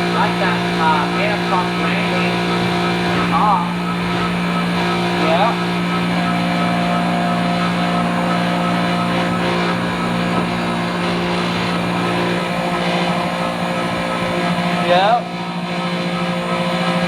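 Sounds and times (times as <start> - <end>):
ice machine humming: 0.0 - 17.0.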